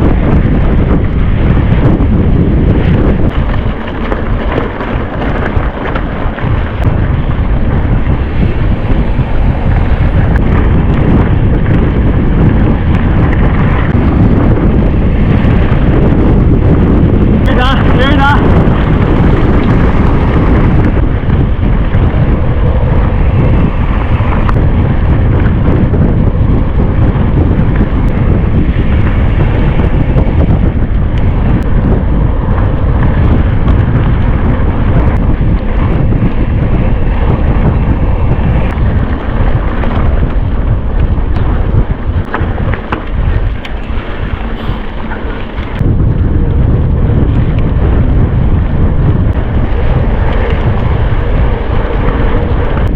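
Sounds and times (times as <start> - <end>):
bike clicks and rattles: 0.0 - 52.9
wind buffeting microphone: 0.0 - 52.9.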